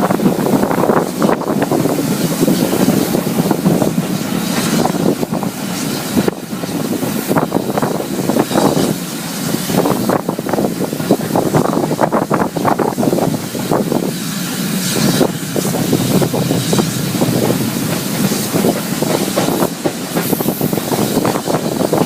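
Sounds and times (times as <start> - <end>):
clatter of wheels over rails: 0.0 - 22.0
hiss: 0.0 - 22.0
train wheels rumbling on track: 0.0 - 22.0.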